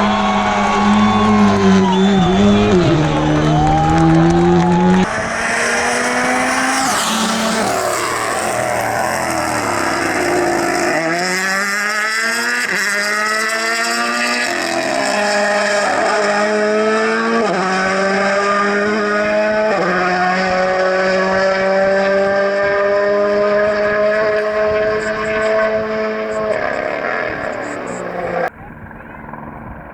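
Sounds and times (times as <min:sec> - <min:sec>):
rally car engine accelerating: 0:00.0 - 0:28.5.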